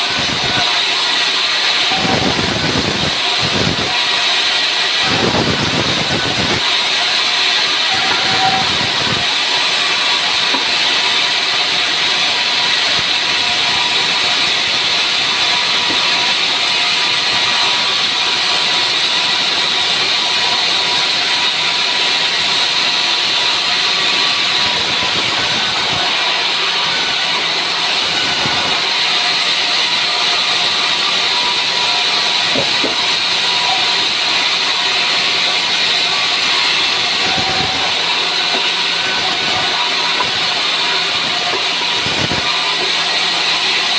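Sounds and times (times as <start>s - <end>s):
saw blade rasping through wood: 0.0s - 43.9s
sawmill machine running: 0.0s - 43.9s.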